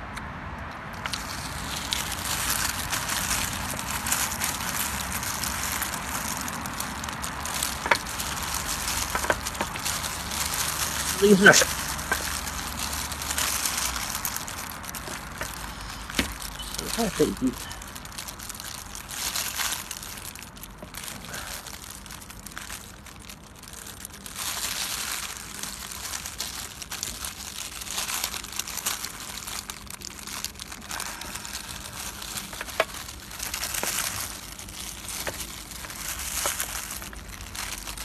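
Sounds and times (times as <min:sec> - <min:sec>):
plastic wrapping crinkling: 0:00.7 - 0:38.0.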